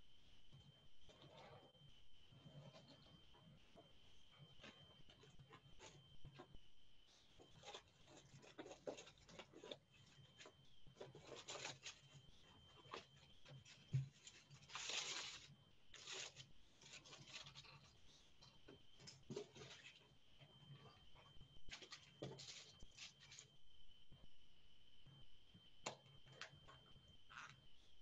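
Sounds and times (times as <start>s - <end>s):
rustling and scraping: 0.0s - 23.8s
faint steady hum: 0.0s - 28.0s.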